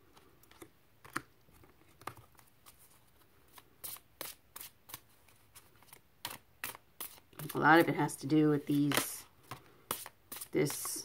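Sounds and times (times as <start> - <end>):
cards shuffling clicks and slides: 0.0 - 8.0, 8.7 - 11.0.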